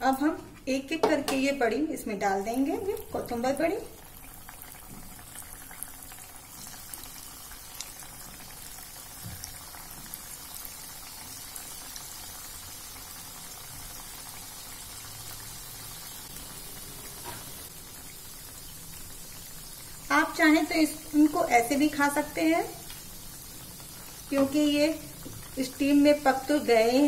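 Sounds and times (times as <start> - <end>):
hot oil sizzling: 0.0 - 27.0.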